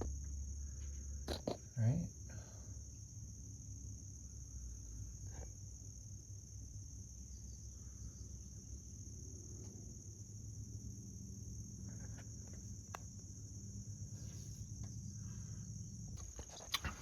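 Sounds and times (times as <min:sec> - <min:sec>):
crickets chirring: 0:00.0 - 0:17.0
low background rumble: 0:00.0 - 0:17.0.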